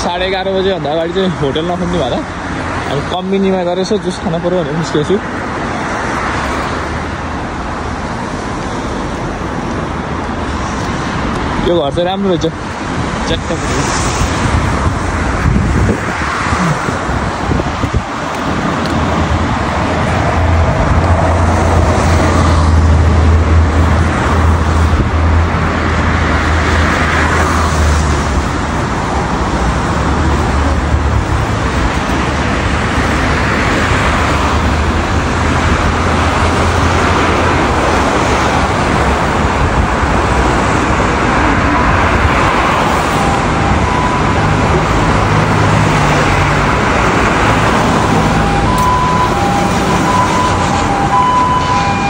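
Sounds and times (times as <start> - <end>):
bus passing by: 0.0 - 52.0
cars passing: 0.0 - 52.0.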